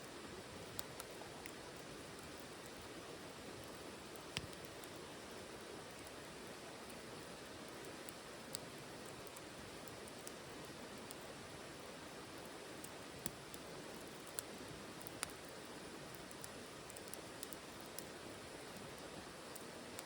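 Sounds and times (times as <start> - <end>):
fire crackles and pops: 0.0 - 20.0
wood fire hissing: 0.0 - 20.0.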